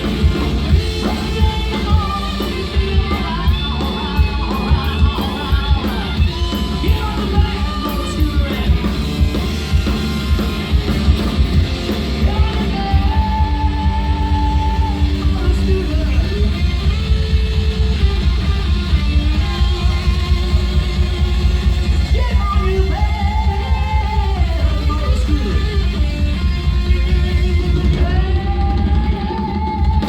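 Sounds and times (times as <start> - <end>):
live rock band playing: 0.0 - 30.0
singer vocals and yells: 0.0 - 30.0.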